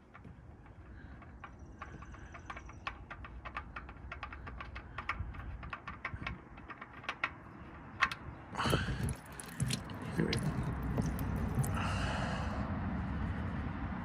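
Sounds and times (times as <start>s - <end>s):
light rapid clicking of oil filter: 0.0s - 11.9s.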